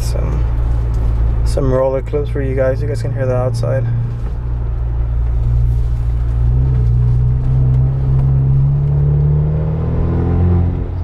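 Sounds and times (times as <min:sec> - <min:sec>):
car exhaust droning: 0:00.0 - 0:11.0.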